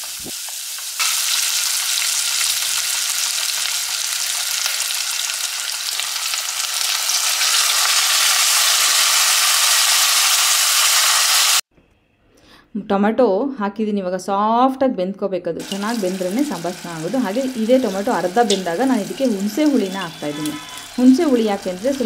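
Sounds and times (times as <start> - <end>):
onions and tomatoes sizzling in oil: 0.0 - 11.6, 15.6 - 22.0.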